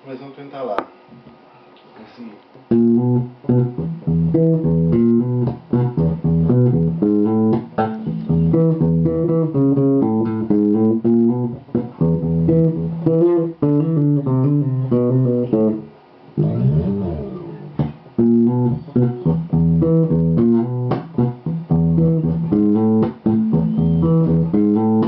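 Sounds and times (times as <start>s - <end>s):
electric bass line: 2.7s - 25.0s.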